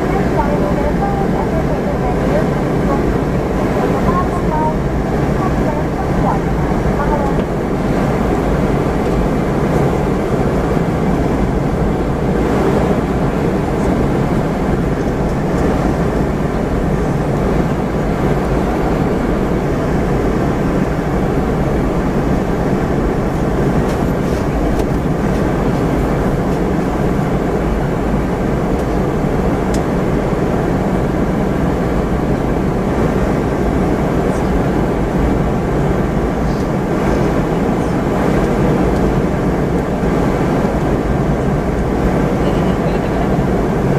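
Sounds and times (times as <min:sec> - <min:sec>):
airplane cabin engine noise: 0:00.0 - 0:43.9.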